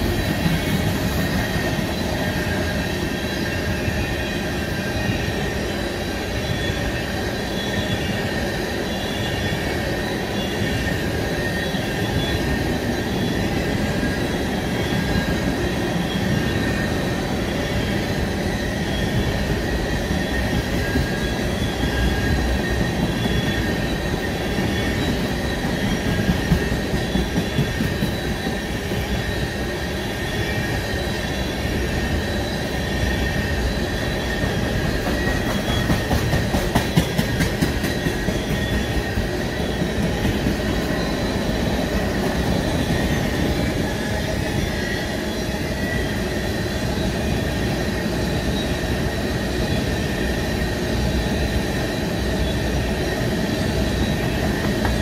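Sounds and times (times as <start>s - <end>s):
steady wheel squeal: 0.0s - 49.1s
freight train rumbling past: 0.0s - 55.0s.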